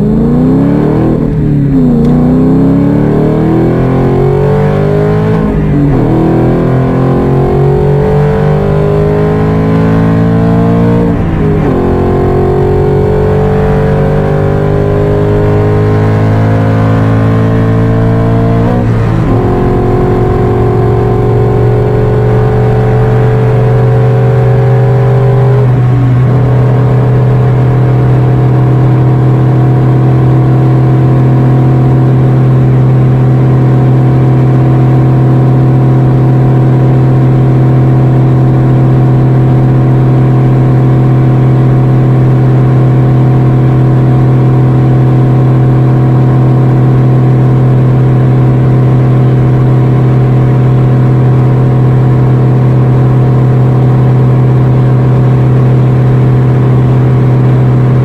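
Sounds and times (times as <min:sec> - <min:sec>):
car engine high drone: 0:00.0 - 0:58.0.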